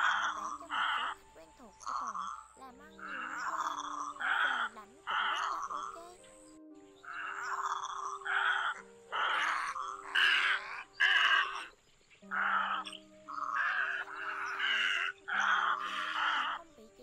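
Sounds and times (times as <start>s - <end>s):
background music with low notes: 0.0s - 17.0s
egrets croaking: 0.0s - 17.0s.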